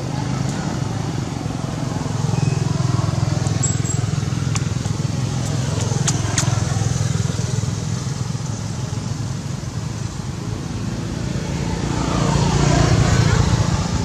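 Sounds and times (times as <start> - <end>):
engine drone with pulsing rumble: 0.0 - 14.0.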